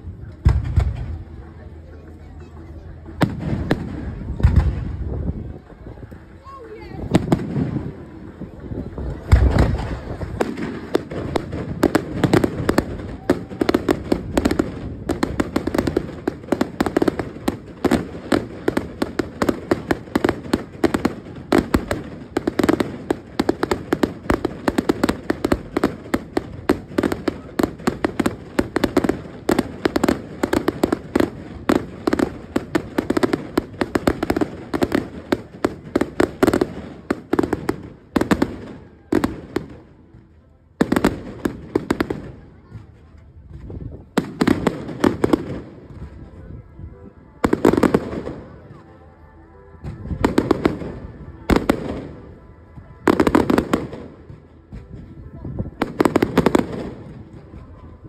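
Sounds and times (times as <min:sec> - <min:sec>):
fireworks bangs and crackles: 0:00.0 - 0:49.0, 0:49.7 - 0:58.0.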